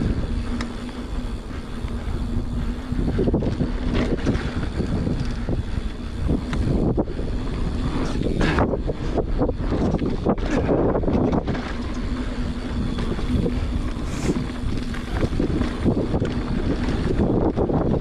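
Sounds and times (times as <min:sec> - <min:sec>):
bike rattling: 0:00.0 - 0:18.0
tyres rumbling on dirt trail: 0:00.0 - 0:18.0
wind buffeting microphone: 0:00.0 - 0:18.0.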